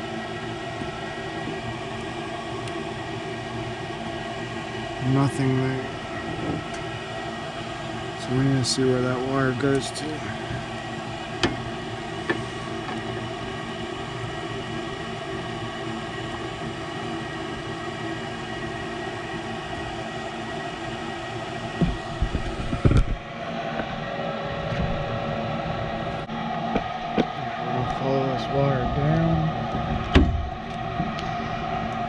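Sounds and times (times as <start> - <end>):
furnace motor humming: 0.0 - 32.0.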